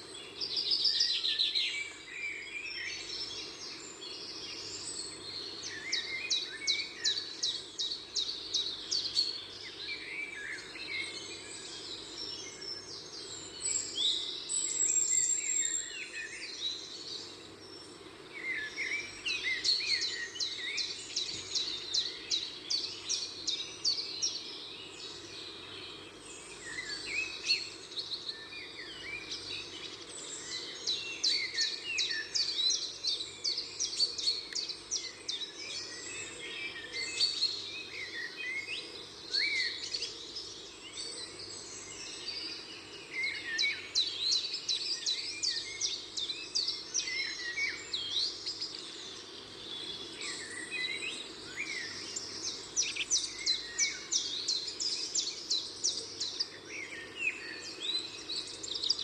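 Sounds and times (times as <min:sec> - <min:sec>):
low background hiss: 0:00.0 - 0:59.0
small birds chirping: 0:00.0 - 0:59.0.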